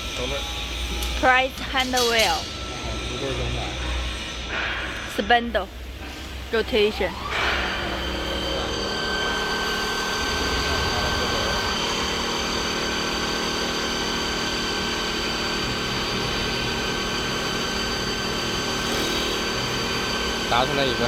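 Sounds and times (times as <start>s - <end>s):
lathe spindle motor whining: 0.0s - 21.0s.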